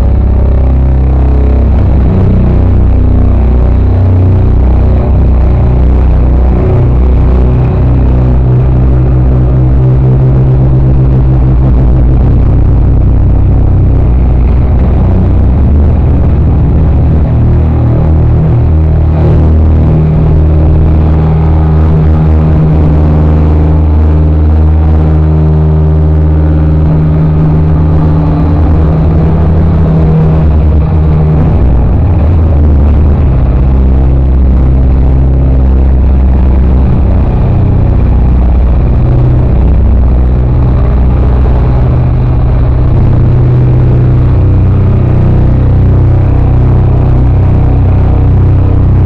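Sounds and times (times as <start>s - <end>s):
loud distorted live music: 0.0s - 49.0s.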